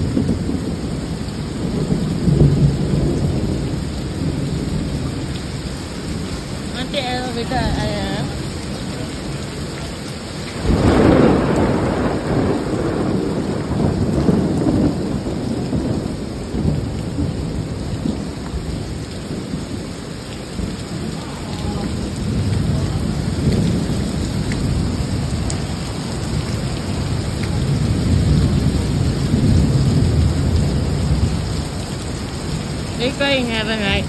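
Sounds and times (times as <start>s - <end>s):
rain: 0.0s - 34.0s
wind: 0.0s - 34.0s.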